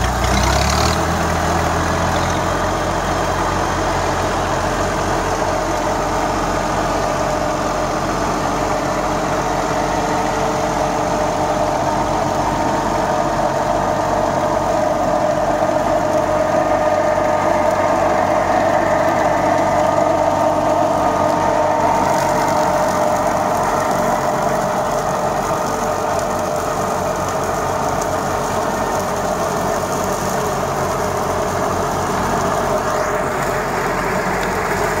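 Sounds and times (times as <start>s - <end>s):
tractor diesel engine droning: 0.0s - 35.0s.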